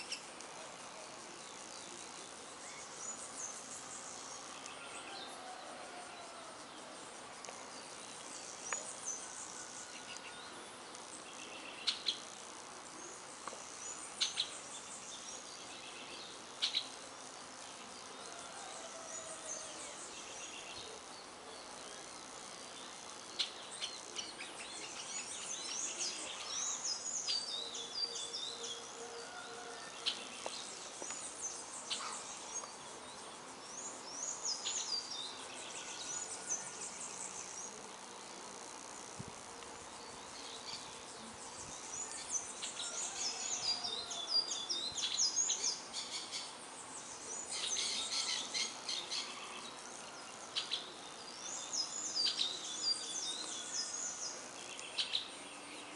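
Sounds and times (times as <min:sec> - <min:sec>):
background hiss: 0:00.0 - 0:55.9
wild birds chirping and singing: 0:00.0 - 0:55.9.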